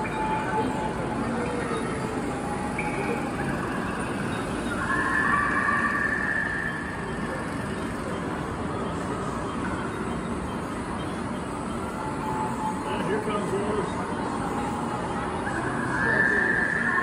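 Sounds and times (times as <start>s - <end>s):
steady background din: 0.0s - 17.0s.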